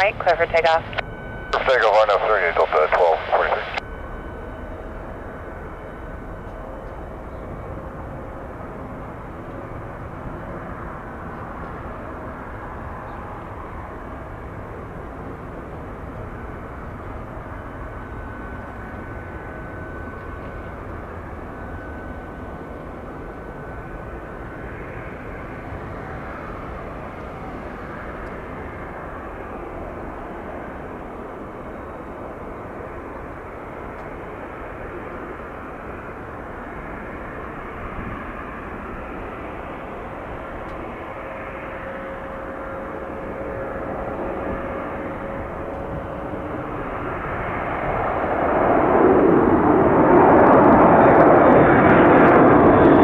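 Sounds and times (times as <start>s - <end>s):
jet engines rushing with whine: 0.0s - 53.0s.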